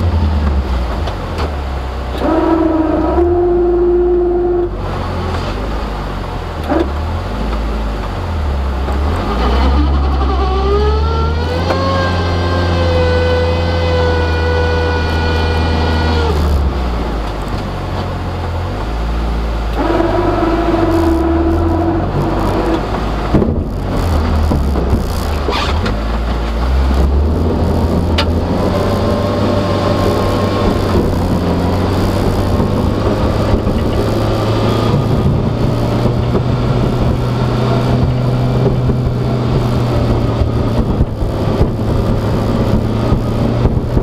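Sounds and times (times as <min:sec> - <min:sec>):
rising drivetrain whine: 0:00.0 - 0:44.0
utility vehicle engine running: 0:00.0 - 0:44.0.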